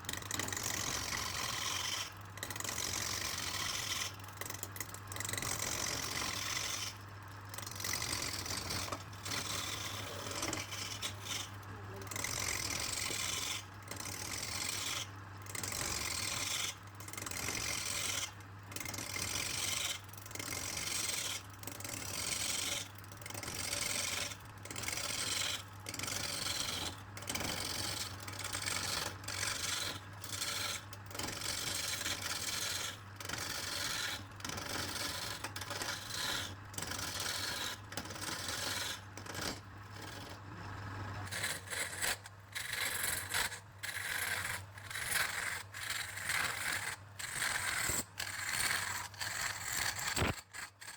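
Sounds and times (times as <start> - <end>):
rasping strokes on wood: 0.0 - 50.9.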